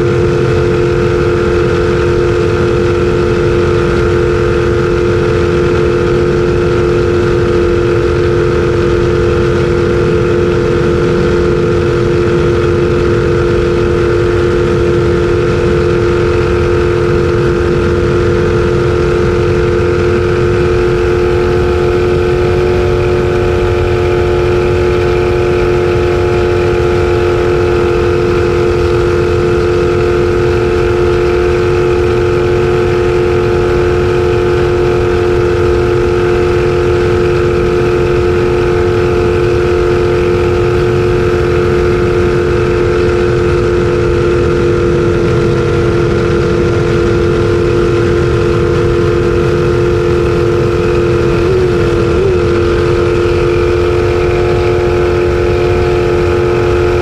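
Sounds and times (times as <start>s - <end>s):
jet boat engine running hard: 0.0s - 57.0s.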